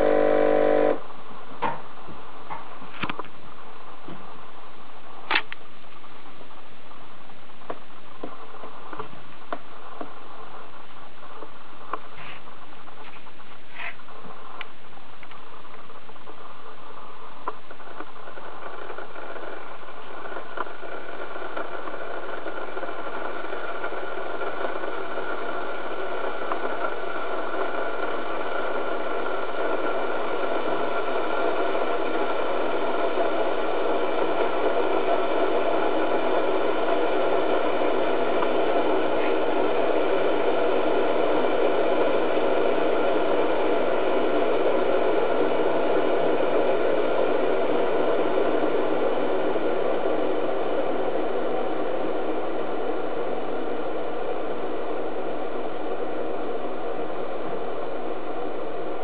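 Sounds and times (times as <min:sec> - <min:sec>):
coffee maker heating hiss: 0:00.0 - 0:59.0.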